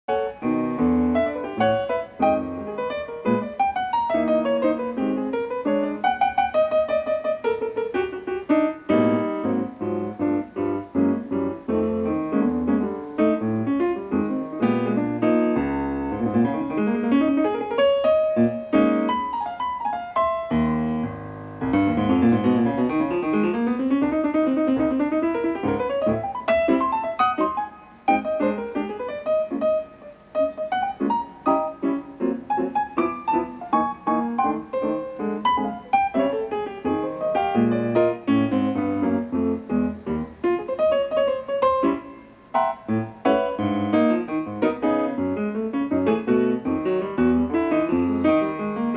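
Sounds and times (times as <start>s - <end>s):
solo piano music: 0.1s - 48.9s.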